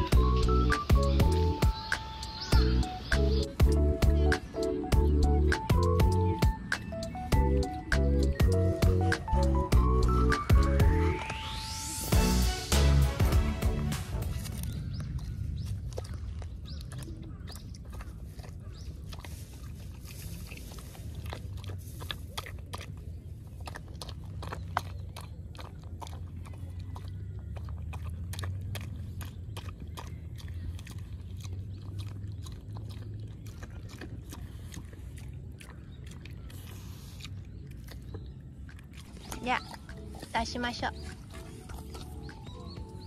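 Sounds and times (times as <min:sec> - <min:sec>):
puppy crunching food: 0:00.0 - 0:11.6, 0:13.7 - 0:43.0.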